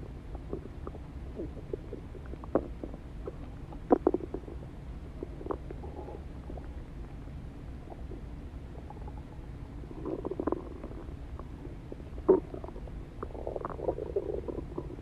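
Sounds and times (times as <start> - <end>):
stomach gurgling: 0.0 - 7.1, 7.7 - 15.0
low stomach rumble: 0.0 - 15.0.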